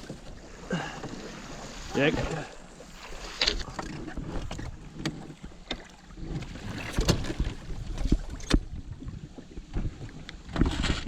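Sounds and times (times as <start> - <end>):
knocks and clunks in boat: 0.0 - 11.0.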